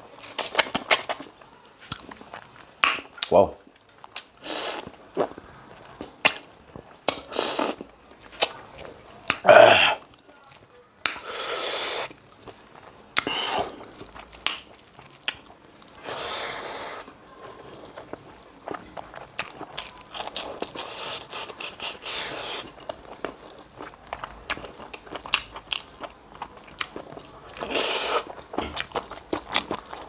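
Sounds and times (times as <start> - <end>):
person chewing and smacking: 0.2 - 30.0.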